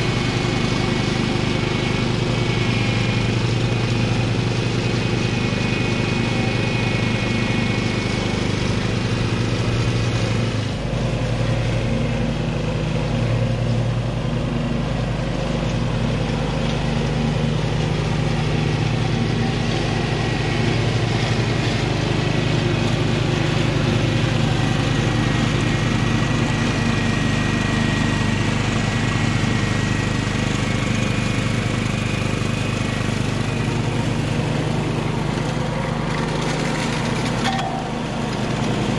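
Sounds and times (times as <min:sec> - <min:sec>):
riding lawn mower cutting grass: 0:00.0 - 0:38.9.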